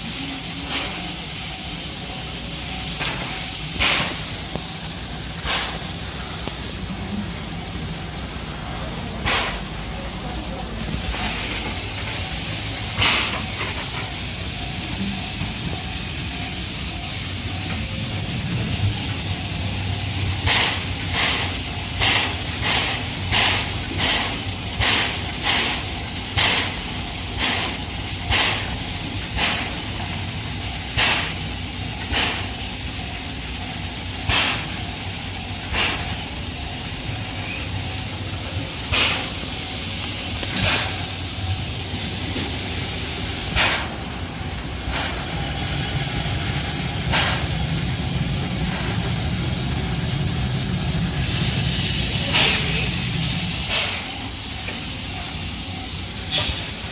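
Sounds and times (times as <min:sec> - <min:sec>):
steam hissing: 0:00.0 - 0:56.9
steam locomotive puffs: 0:00.0 - 0:56.9.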